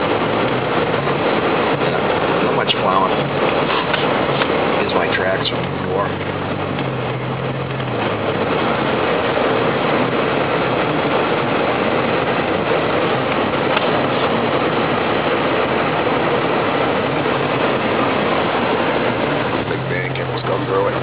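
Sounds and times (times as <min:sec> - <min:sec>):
truck engine and tyre noise: 0:00.0 - 0:21.0.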